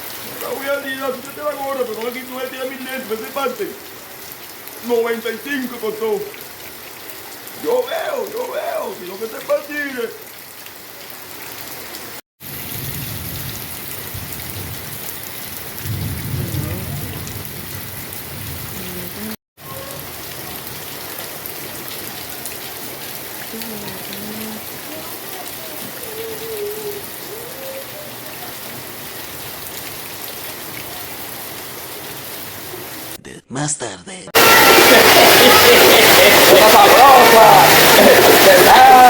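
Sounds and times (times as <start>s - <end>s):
heavy rain pouring: 0.0s - 33.2s, 34.4s - 39.0s.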